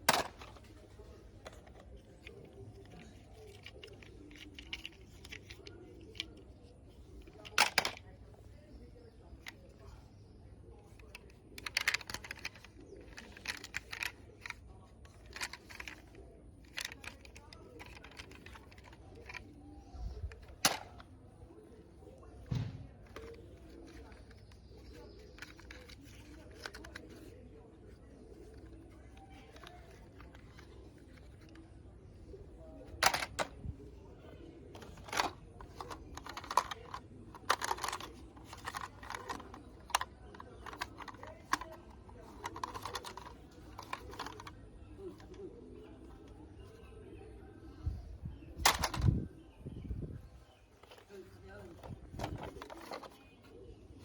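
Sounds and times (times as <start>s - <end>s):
toy vehicles clicking and rattling: 0.0s - 10.1s, 10.8s - 46.9s, 48.5s - 49.2s, 50.7s - 54.0s
faint low hum: 0.0s - 54.0s.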